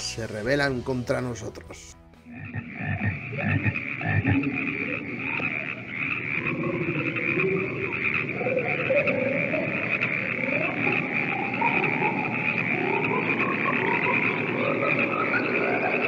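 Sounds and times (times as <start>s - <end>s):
frogs croaking: 2.2s - 16.0s.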